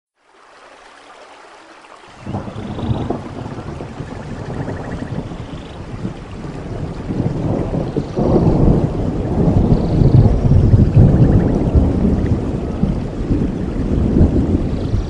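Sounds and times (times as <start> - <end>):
steady rain: 0.2 - 15.0
thunder rumbling: 2.2 - 15.0.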